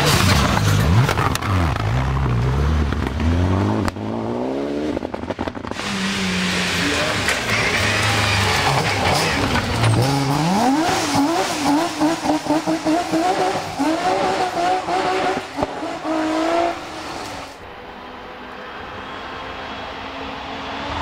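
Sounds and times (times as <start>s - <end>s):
rally car engine revving: 0.0s - 17.6s.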